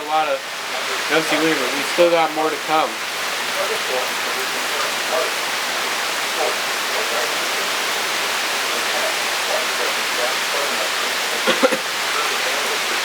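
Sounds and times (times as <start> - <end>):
torrential rain pouring: 0.0 - 13.0.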